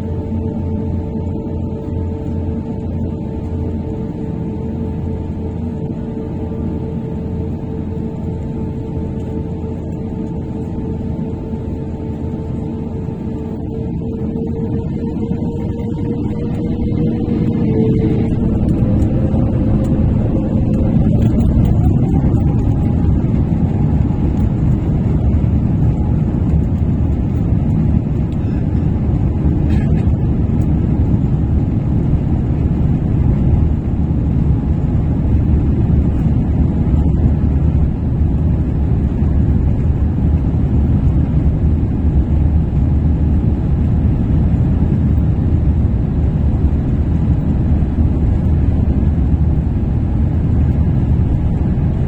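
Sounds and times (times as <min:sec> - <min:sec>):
jet engines spooling up: 0:00.0 - 0:52.0.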